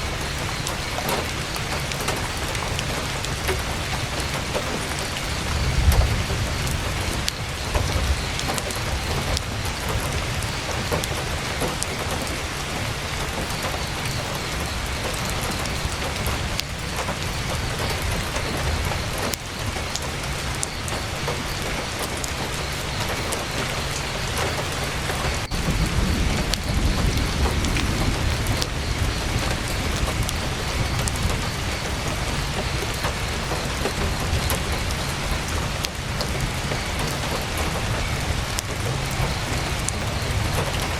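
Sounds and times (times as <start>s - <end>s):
campfire crackling: 0.0s - 40.9s
heavy rain drumming on tent: 0.0s - 40.9s.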